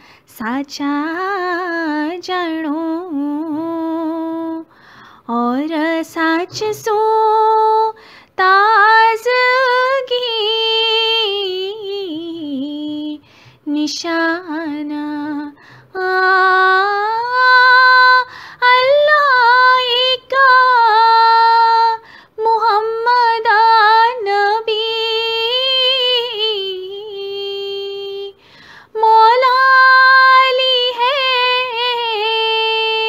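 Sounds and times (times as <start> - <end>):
woman singing unaccompanied: 0.3 - 33.0.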